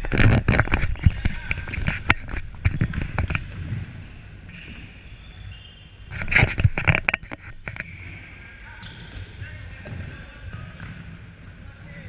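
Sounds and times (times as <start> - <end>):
background of futsal play: 0.0 - 12.0.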